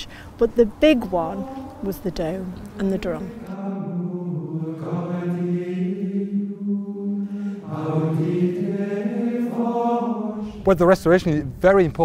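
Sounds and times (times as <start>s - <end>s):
voices chanting long held notes: 0.6s - 10.6s.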